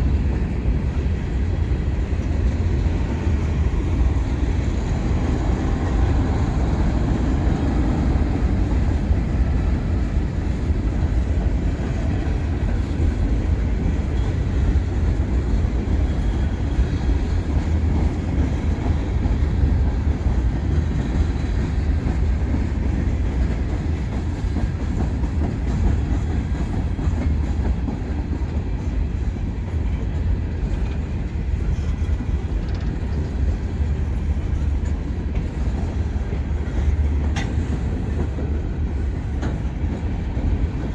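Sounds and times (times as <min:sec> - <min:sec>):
freight train wheels clattering: 0:00.0 - 0:40.9.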